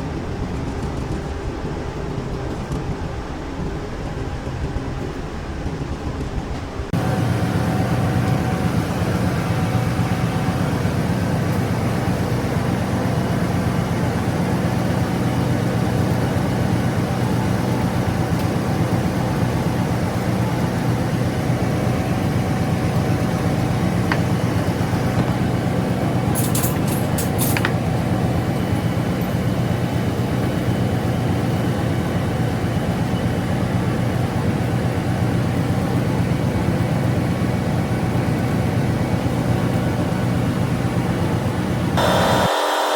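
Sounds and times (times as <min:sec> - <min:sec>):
lathe humming: 0:00.0 - 0:42.9.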